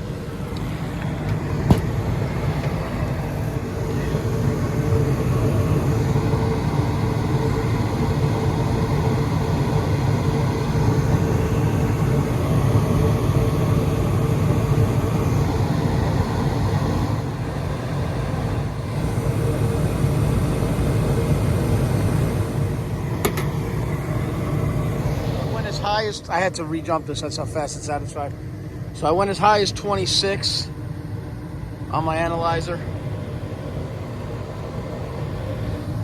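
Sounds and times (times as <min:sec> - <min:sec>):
hvac unit humming: 0:00.0 - 0:36.0.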